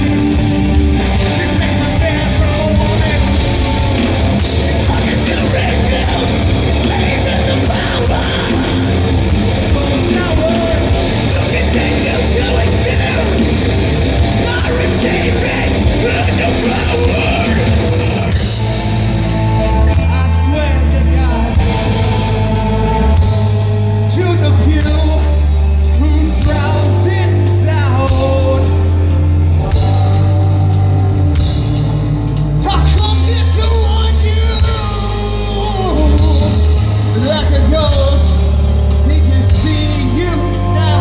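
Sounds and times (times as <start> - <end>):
singer shouting and singing: 0.0 - 30.7, 32.6 - 41.0
heavy bass notes: 0.0 - 41.0
pounding drums and cymbals: 0.0 - 41.0.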